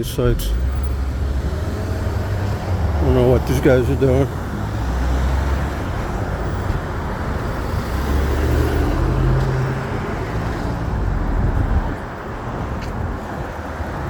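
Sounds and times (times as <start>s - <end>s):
vehicle engine passing close: 0.0s - 12.0s
road traffic noise: 0.0s - 14.0s.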